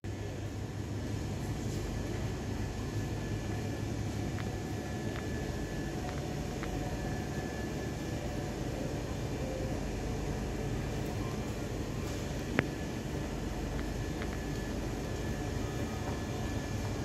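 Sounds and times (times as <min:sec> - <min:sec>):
low rumble and hiss of shop: 0:00.0 - 0:17.0.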